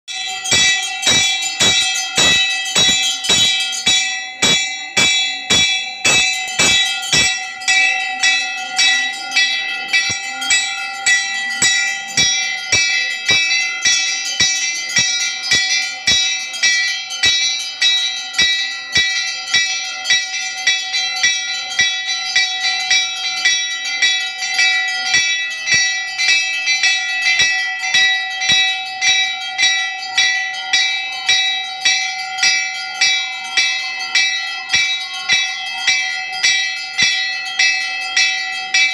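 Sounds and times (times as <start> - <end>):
metal temple bell ringing: 0.1 - 38.9.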